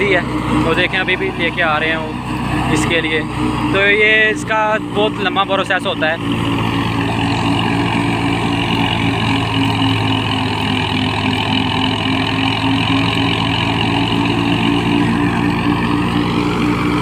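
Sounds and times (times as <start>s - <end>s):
threshing drum whirring: 0.0s - 17.0s
tractor engine humming: 0.0s - 17.0s.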